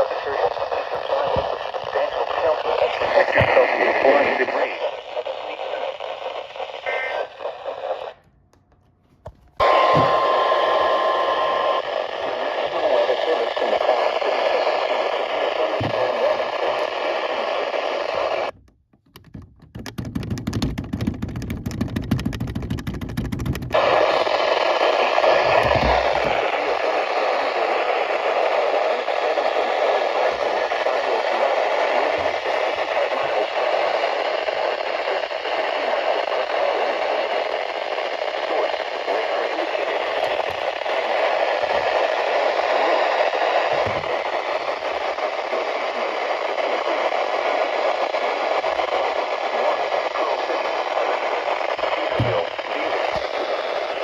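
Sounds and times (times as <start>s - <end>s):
radio static hiss: 0.0s - 8.2s, 9.6s - 18.6s, 23.7s - 54.0s.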